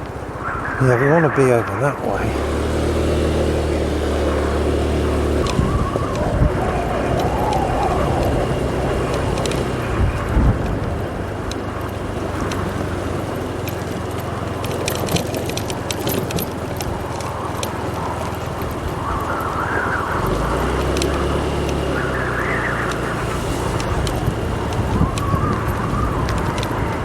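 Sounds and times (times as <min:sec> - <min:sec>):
wind noise on microphone: 0:00.0 - 0:27.0
motorbike engine running: 0:02.1 - 0:27.0
sharp clicks: 0:05.3 - 0:27.0.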